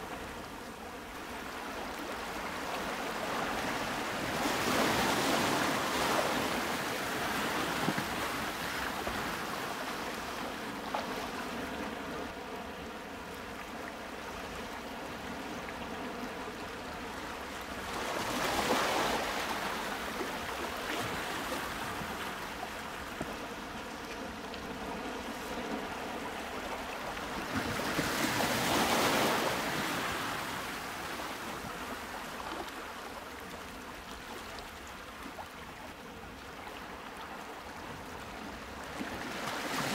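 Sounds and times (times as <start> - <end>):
waves washing: 0.0 - 39.9.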